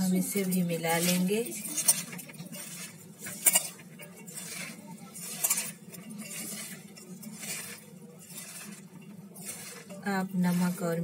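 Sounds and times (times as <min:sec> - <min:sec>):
onion slices rustling: 0:00.0 - 0:11.0.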